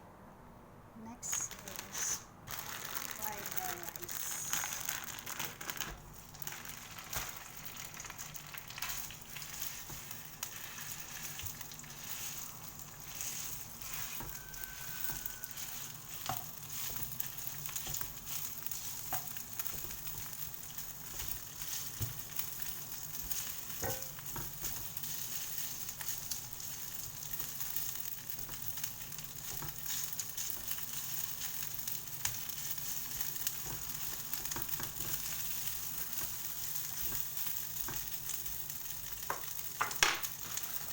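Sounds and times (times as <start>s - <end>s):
rice sizzling in hot oil: 1.6s - 40.9s.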